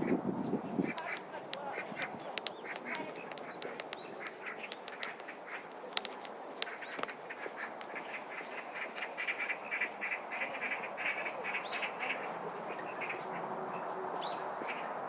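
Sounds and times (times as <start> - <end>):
birds calling harsh notes: 0.0 - 15.0
wind rustle: 0.0 - 15.0.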